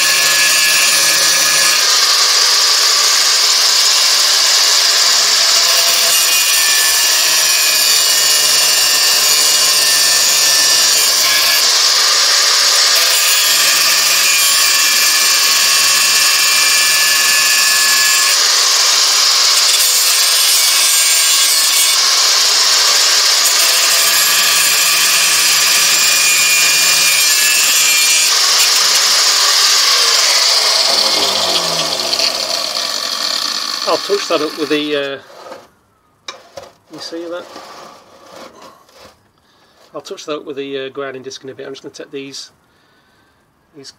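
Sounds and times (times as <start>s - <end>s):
angle grinder cutting steel: 0.0s - 35.6s.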